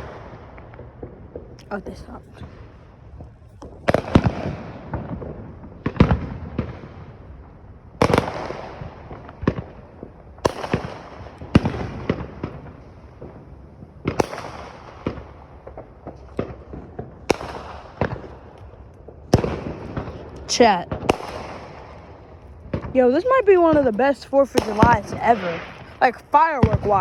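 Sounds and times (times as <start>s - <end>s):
fireworks booming: 0.0s - 27.0s
fireworks crackling: 0.0s - 27.0s.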